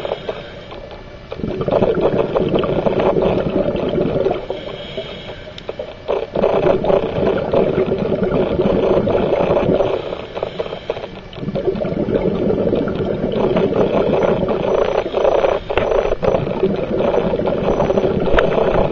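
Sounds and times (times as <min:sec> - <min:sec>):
regulator bubbles gurgling underwater: 0:00.0 - 0:18.9.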